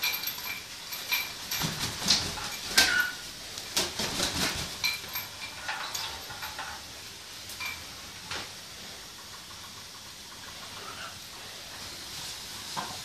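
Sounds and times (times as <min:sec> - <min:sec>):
shower spray hissing: 0:00.0 - 0:13.0.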